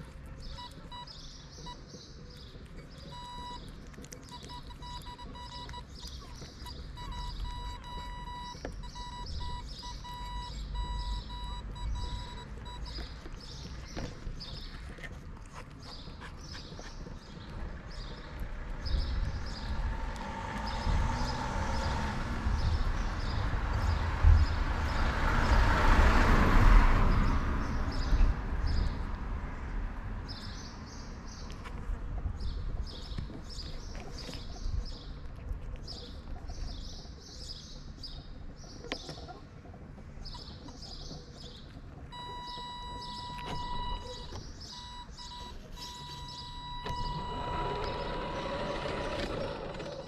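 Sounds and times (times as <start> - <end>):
small birds chirping: 0.0 - 25.6, 30.2 - 50.0.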